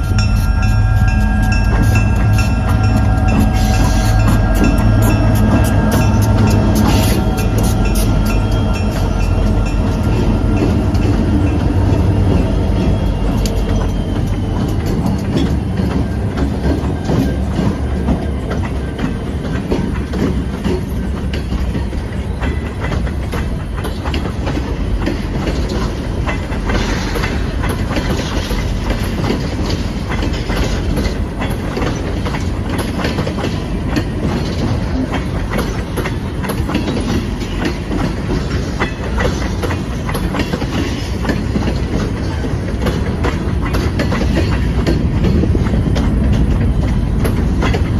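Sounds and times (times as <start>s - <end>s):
train rumbling: 0.0s - 47.9s
wheels clicking over rail joints: 0.0s - 47.9s.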